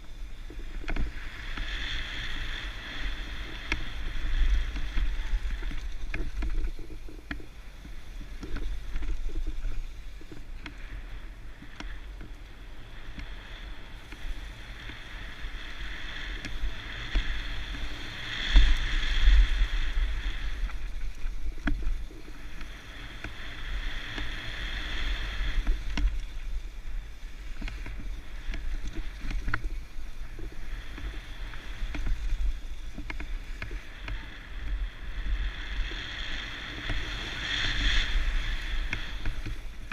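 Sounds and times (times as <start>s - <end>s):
rushing noise of bike ride: 0.0s - 39.9s
wind rumble on microphone: 0.0s - 39.9s.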